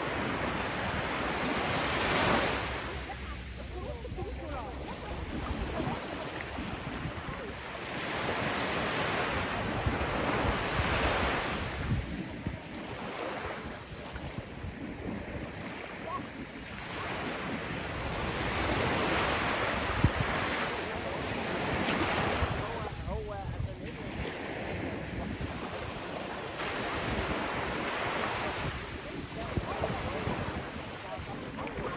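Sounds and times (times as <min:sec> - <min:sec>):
sea waves breaking on beach: 0:00.0 - 0:31.9
wind rumbling on microphone: 0:00.0 - 0:31.9.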